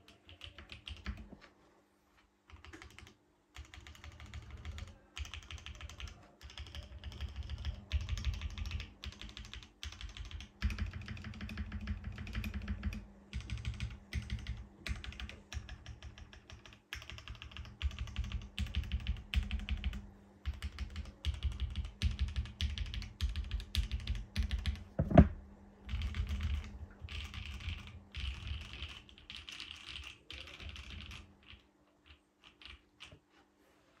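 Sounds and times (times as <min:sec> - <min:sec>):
mechanical keyboard typing: 0:00.0 - 0:01.3, 0:02.5 - 0:33.2.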